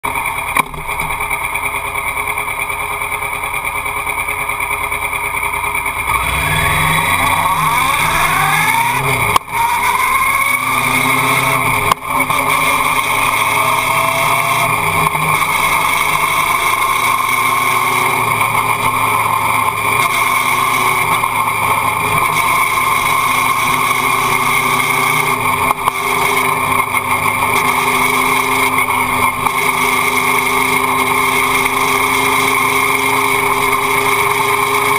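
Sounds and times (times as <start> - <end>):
motorcycle engine: 0.0 - 34.9.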